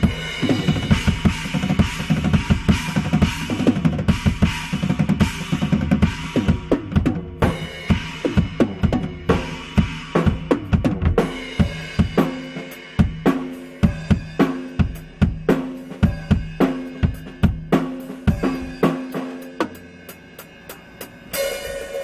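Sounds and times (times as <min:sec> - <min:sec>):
drum kit playing: 0:00.0 - 0:22.0.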